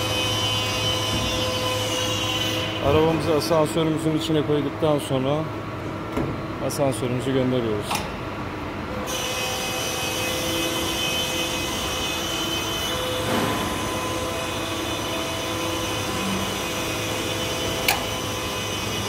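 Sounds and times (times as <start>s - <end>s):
lift motor hum and whine: 0.0s - 19.0s.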